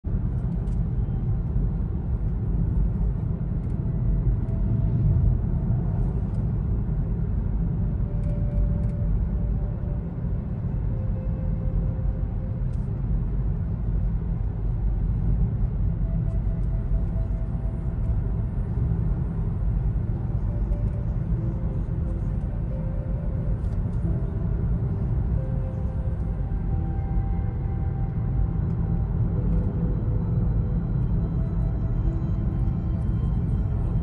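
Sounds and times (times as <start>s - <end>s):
car cabin tyre and engine rumble: 0.0s - 34.0s.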